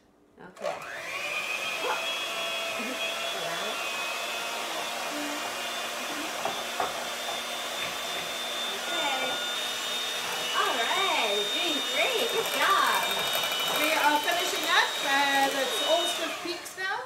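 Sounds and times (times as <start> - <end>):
electric hand mixer running: 0.6 - 17.0.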